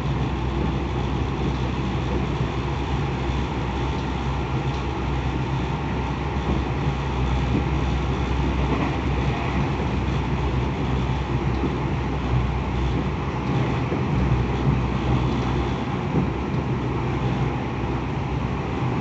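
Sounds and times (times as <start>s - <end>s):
electric train running: 0.0s - 19.0s.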